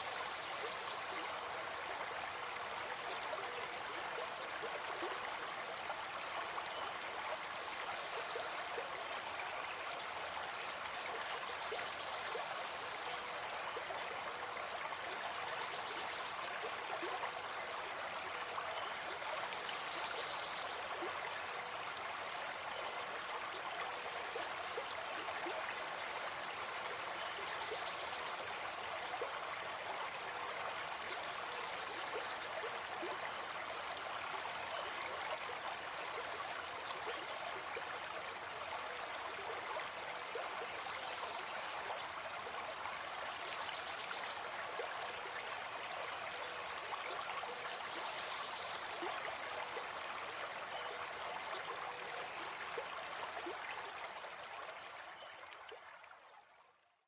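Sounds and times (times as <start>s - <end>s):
stream flowing over rocks: 0.0s - 56.4s.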